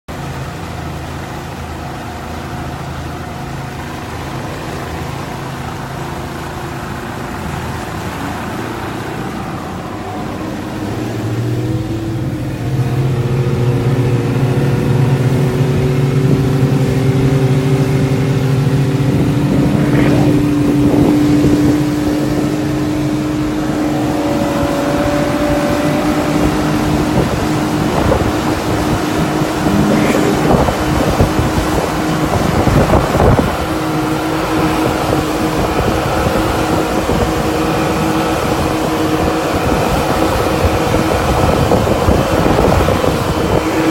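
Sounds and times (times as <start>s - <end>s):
boat engine running: 0.1s - 43.9s.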